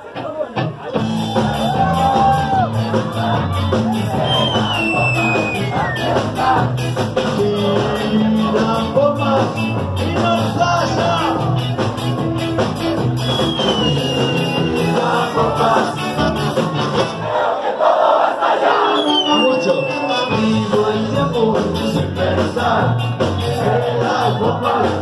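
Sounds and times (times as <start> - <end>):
electric guitar: 0.0 - 17.2, 19.3 - 25.0
bass guitar: 0.0 - 17.3, 19.4 - 25.0
drums: 0.0 - 17.5, 19.1 - 25.0
voices singing and shouting: 0.8 - 12.1, 13.0 - 25.0.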